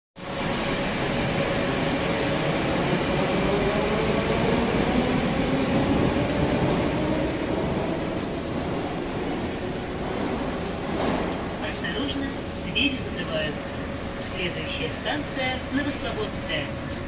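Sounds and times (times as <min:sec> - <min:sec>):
train ventilation hum and rumble: 0:00.2 - 0:17.0.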